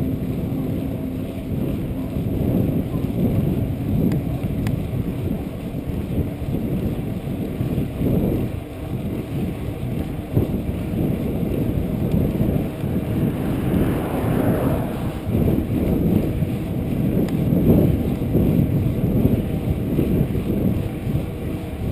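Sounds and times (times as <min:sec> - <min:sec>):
bicycle tyres on concrete: 0:00.0 - 0:21.9
wind buffeting microphone: 0:00.0 - 0:21.9.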